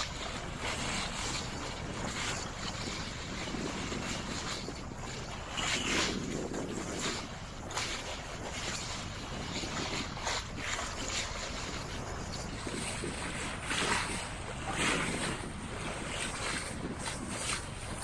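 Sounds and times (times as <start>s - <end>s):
water splashing against hull: 0.0s - 18.0s
wind buffeting microphone: 0.0s - 18.0s.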